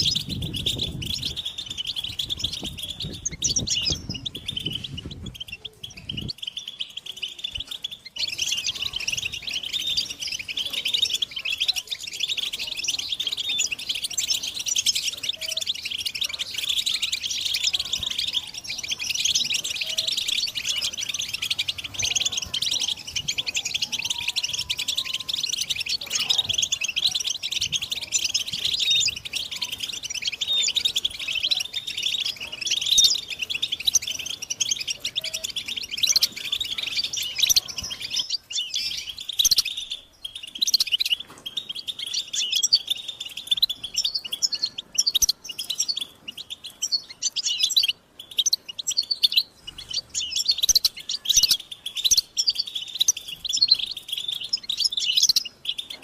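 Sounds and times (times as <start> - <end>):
goldfinches twittering: 0.0 - 56.0.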